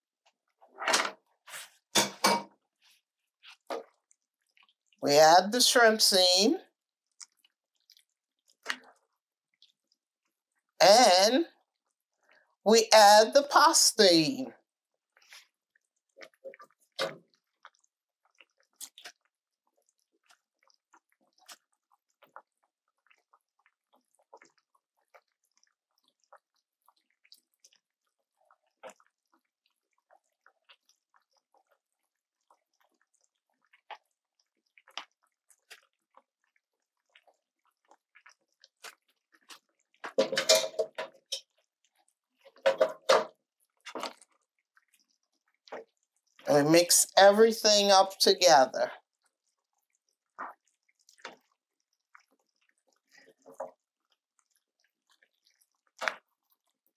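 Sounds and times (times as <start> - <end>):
sauce simmering with small pops: 0.0 - 5.0, 6.7 - 10.8, 11.6 - 12.6, 14.6 - 46.5, 48.9 - 56.9
wet stirring in a pan: 0.2 - 6.1, 11.6 - 56.9.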